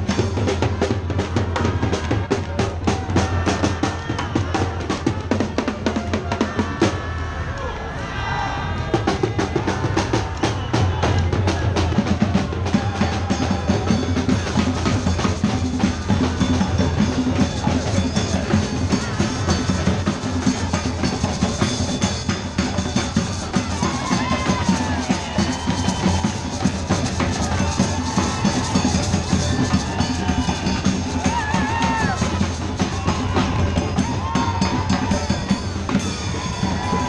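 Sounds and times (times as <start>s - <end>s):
drum-driven parade music: 0.0s - 37.0s.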